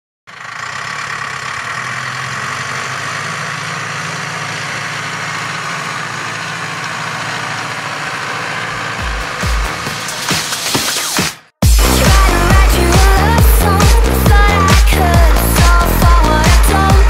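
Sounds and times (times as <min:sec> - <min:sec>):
tractor diesel engine under load: 0:00.3 - 0:17.0.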